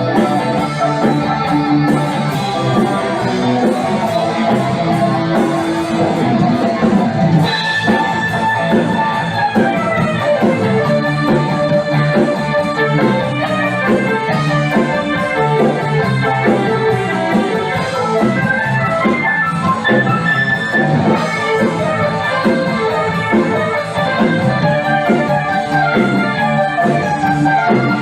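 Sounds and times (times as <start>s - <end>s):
band playing instrumental music: 0.0s - 28.0s
drums: 0.0s - 28.0s
keyboard: 0.0s - 28.0s.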